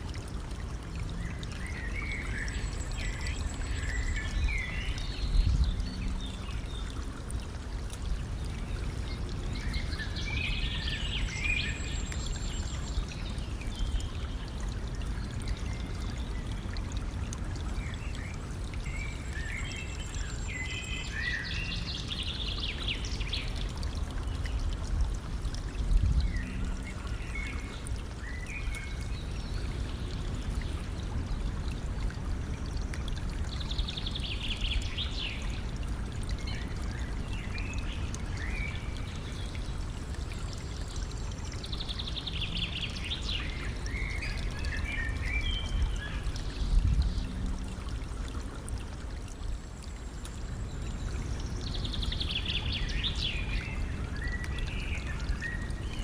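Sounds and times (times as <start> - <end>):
stream flowing and trickling: 0.0 - 56.0
songbirds chirping: 0.1 - 56.0.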